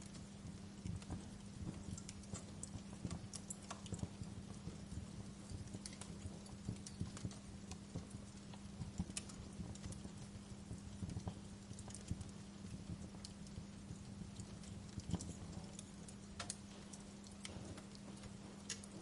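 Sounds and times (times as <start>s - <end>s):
steady low hum: 0.0s - 19.0s
wood fire crackling: 0.0s - 19.0s.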